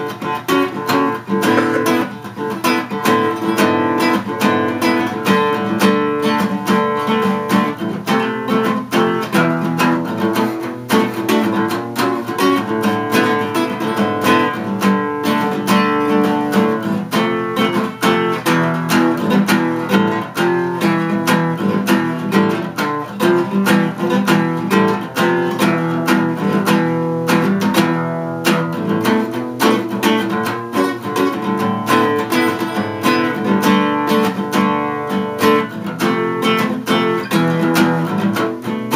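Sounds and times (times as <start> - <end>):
acoustic guitar strumming chords: 0.0 - 38.9.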